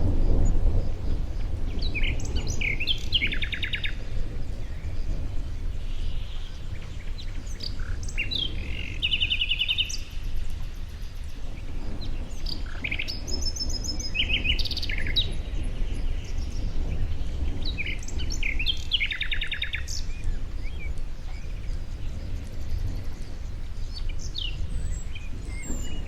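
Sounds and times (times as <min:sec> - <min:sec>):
songbirds chirping and singing: 0:00.0 - 0:26.0
steady low rumble: 0:00.0 - 0:26.0.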